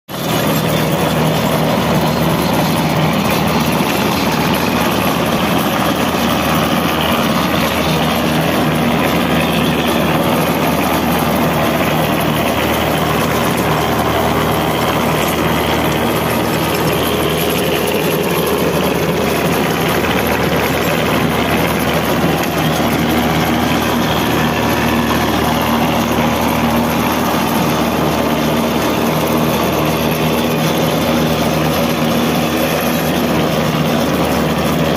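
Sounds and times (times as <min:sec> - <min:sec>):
tractor engine and rotavator running: 0:00.1 - 0:34.9.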